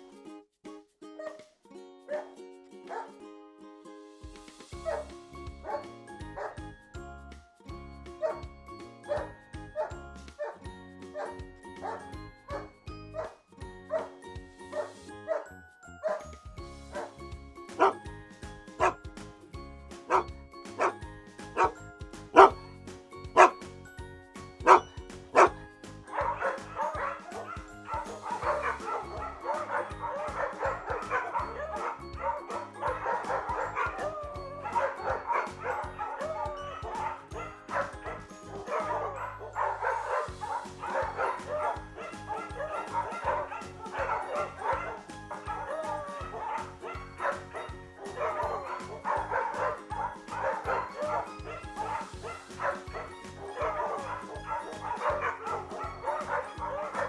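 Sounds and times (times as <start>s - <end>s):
music: 0.0s - 57.0s
dogs barking and yipping: 1.2s - 1.4s, 2.1s - 3.2s, 4.8s - 6.7s, 8.1s - 19.0s, 20.0s - 23.8s, 24.5s - 57.0s.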